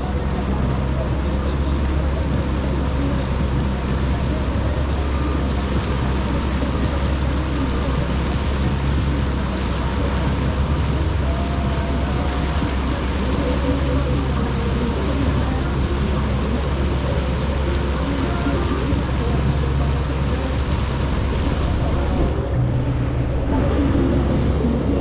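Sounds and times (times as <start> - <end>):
jet ski engine running: 0.0 - 25.0
water rushing: 0.0 - 25.0.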